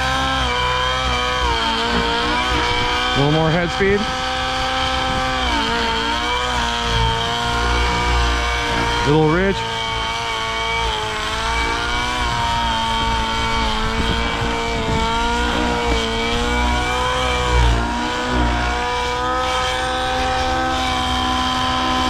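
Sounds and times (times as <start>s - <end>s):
model helicopter engine running: 0.0s - 22.0s.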